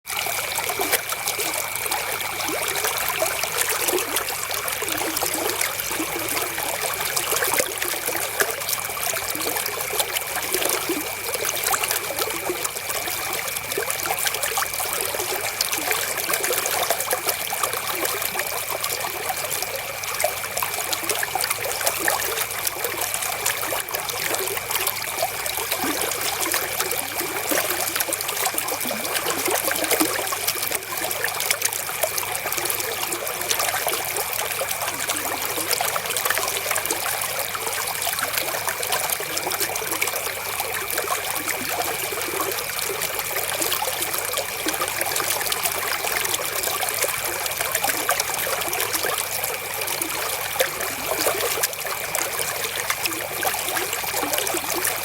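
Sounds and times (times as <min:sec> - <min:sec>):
river water flowing over stones: 0:00.1 - 0:55.0.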